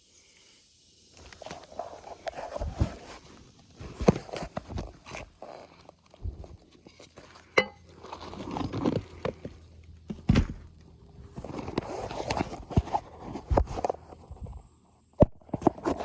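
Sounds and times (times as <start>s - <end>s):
scraping and rustling: 1.2s - 14.6s.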